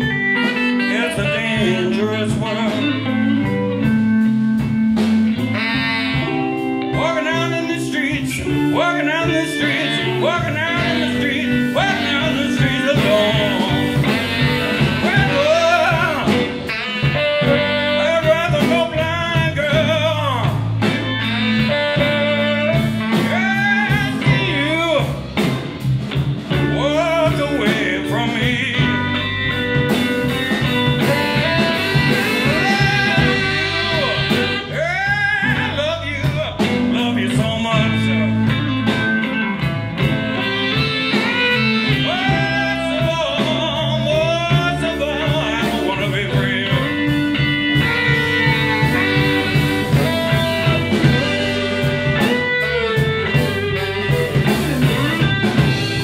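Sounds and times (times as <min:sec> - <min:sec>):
electric guitar lead with bent notes: 0:00.0 - 0:56.0
live blues band playing: 0:00.0 - 0:56.0.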